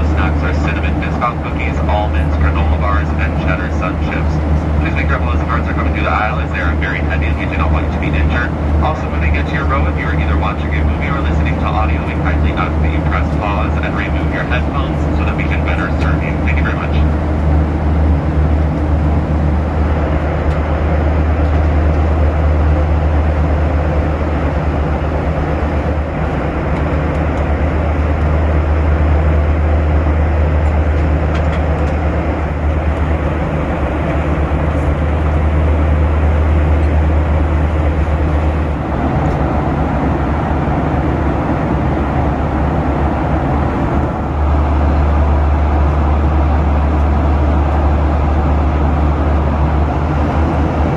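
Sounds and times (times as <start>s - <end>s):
low aircraft cabin drone: 0.0s - 50.9s.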